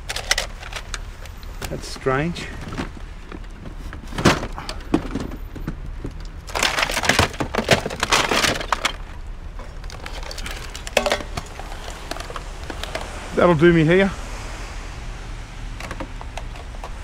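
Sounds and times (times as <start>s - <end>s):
junk knocking and clattering: 0.0s - 13.2s, 15.7s - 17.0s.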